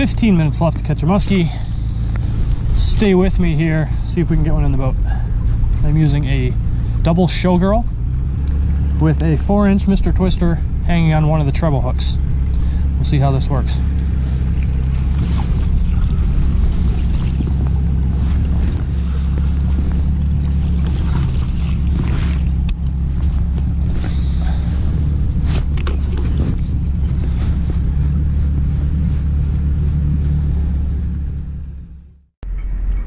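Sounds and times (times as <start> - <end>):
low rumble: 0.0 - 33.0
wind: 0.0 - 33.0.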